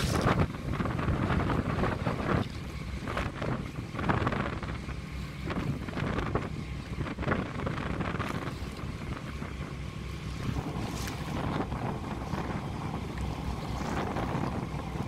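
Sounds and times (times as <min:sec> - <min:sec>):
boat engine rumbling: 0:00.0 - 0:15.0
water washing past hull: 0:00.0 - 0:15.0
wind on microphone: 0:00.0 - 0:15.0.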